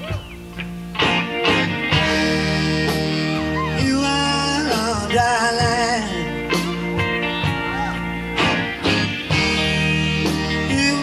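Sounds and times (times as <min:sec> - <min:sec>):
electric guitar melody wavering: 0:00.0 - 0:11.0
live rock band playing: 0:00.0 - 0:11.0.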